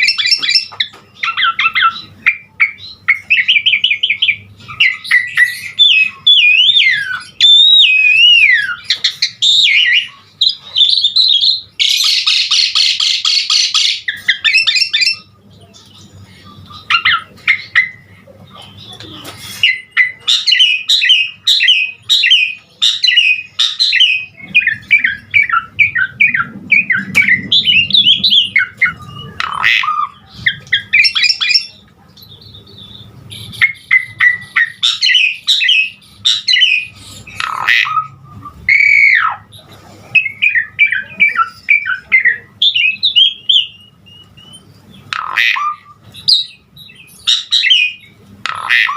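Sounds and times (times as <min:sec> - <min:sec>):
rasping bird chatter: 0:00.0 - 0:39.6
starling singing: 0:00.0 - 0:48.9.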